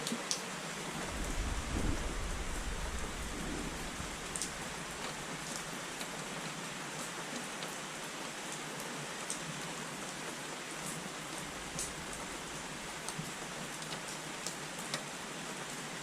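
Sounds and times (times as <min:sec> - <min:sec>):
sharp ticks of raindrops: 0:00.0 - 0:16.0
steady rain falling: 0:00.0 - 0:16.0.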